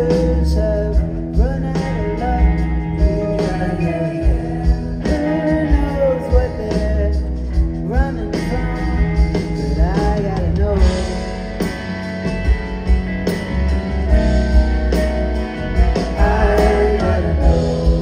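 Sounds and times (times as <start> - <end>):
bass guitar: 0.0 - 18.0
drums: 0.0 - 18.0
electric guitars: 0.0 - 18.0
keyboards: 0.0 - 18.0.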